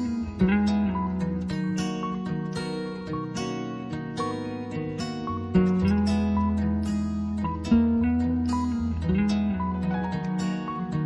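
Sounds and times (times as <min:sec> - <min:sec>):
steady bass: 0:00.0 - 0:03.4, 0:04.2 - 0:11.0
acoustic guitar: 0:00.0 - 0:11.0.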